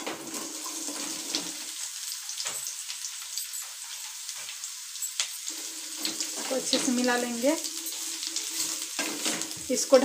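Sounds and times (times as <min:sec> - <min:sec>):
food sizzling in hot oil: 0:00.0 - 0:10.0
oil crackling: 0:00.0 - 0:10.0.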